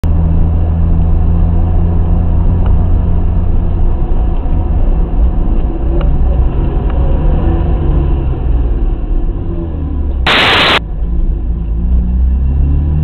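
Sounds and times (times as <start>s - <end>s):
low road rumble: 0.0s - 13.0s
car engine at steady revs: 0.1s - 13.0s.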